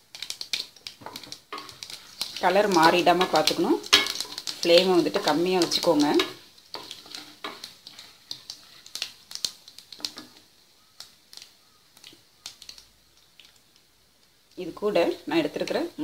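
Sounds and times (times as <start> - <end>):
seeds spluttering in hot oil: 0.0 - 16.0.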